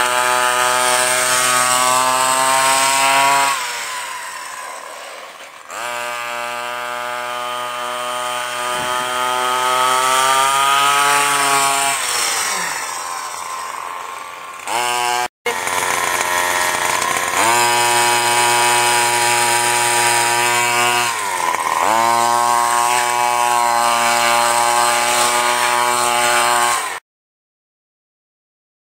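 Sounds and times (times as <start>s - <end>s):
small two-stroke engine revving: 0.0s - 27.0s.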